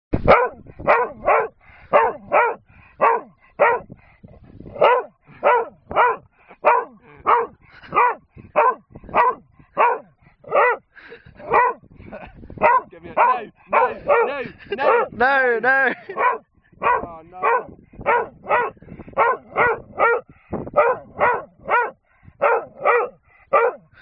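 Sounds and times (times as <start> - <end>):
dog barking: 0.2 - 3.9, 4.7 - 11.8, 12.6 - 15.2, 16.1 - 23.9.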